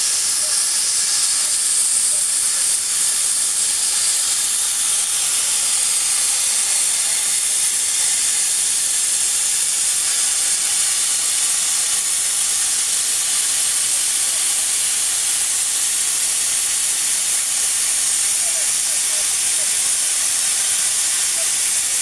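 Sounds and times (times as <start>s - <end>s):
plasma torch hissing: 0.0s - 22.0s.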